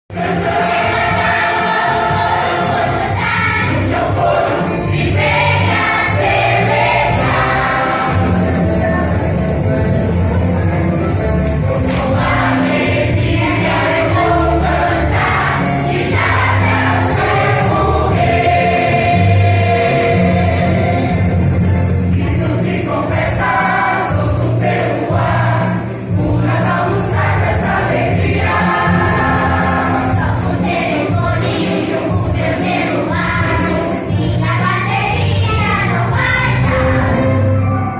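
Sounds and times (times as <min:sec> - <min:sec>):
sustained bass notes: 0:00.1 - 0:30.6
choir singing: 0:00.1 - 0:37.9
high percussion beat: 0:00.1 - 0:37.9
instrumental accompaniment: 0:00.1 - 0:37.9.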